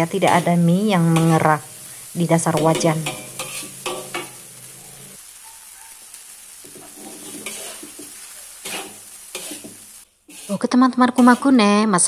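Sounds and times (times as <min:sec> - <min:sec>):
spatula scraping metal wok: 0:00.0 - 0:05.2, 0:06.7 - 0:11.8
food sizzling: 0:00.0 - 0:12.0.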